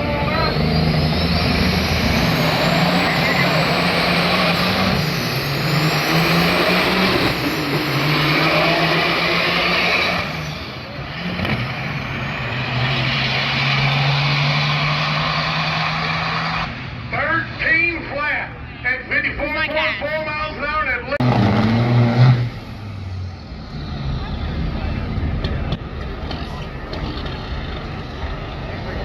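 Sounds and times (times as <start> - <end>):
diesel truck engines running hard: 0.0 - 29.0.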